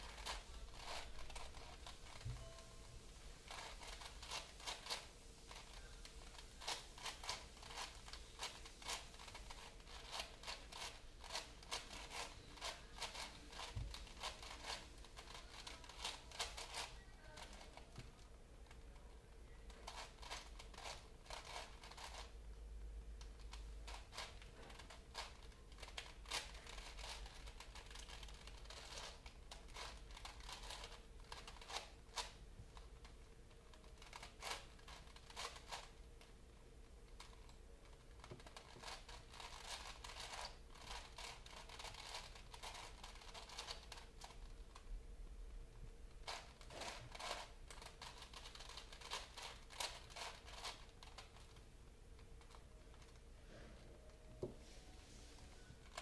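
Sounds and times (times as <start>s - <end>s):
puzzle cube clicking: 0.0s - 2.7s, 3.5s - 18.0s, 19.7s - 22.3s, 23.2s - 33.2s, 33.8s - 36.0s, 37.1s - 44.8s, 46.2s - 51.6s.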